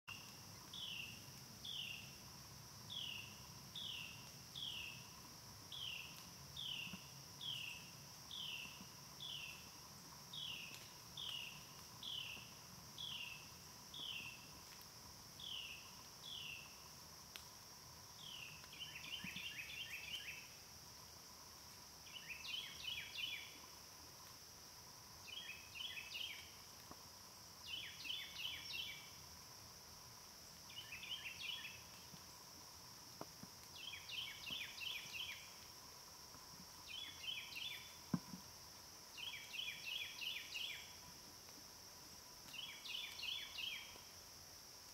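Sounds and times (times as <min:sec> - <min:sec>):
high insect drone: 0:00.1 - 0:44.9.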